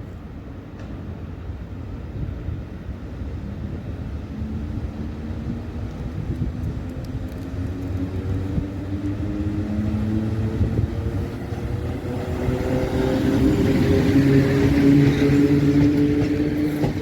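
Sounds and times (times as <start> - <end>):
train rumble: 0.0 - 17.0
electric locomotive humming: 3.3 - 17.0.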